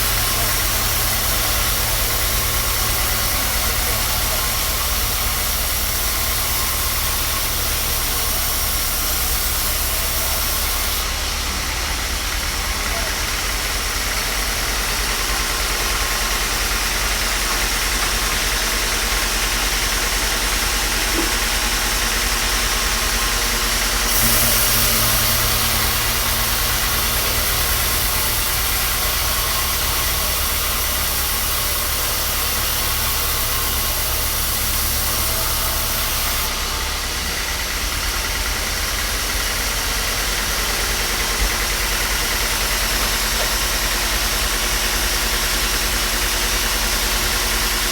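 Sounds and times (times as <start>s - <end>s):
workshop machinery running: 0.0s - 47.9s.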